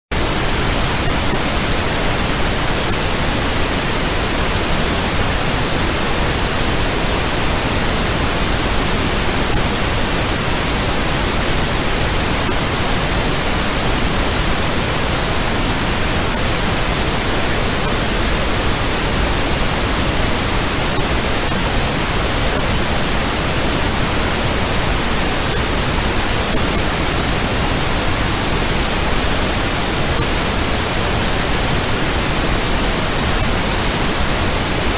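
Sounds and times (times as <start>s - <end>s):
static noise hiss: 0.1s - 34.9s.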